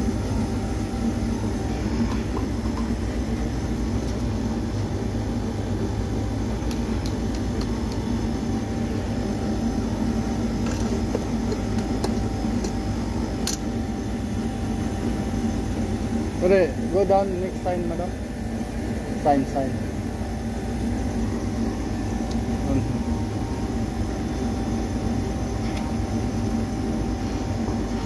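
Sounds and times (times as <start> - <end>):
air conditioner hum: 0.0 - 28.0.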